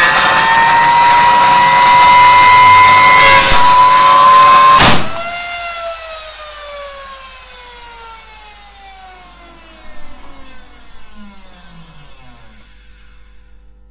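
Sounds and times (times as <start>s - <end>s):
vacuum cleaner motor winding down: 0.0s - 13.7s.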